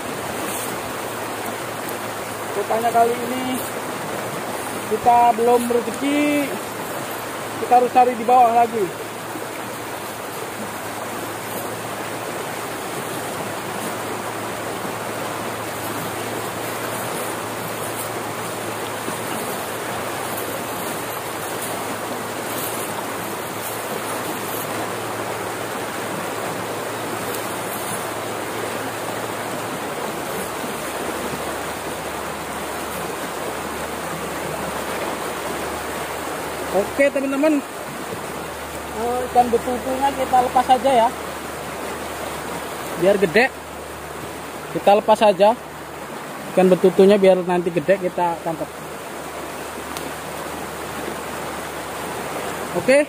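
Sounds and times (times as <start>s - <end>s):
water gushing from a pipe: 0.0s - 53.0s.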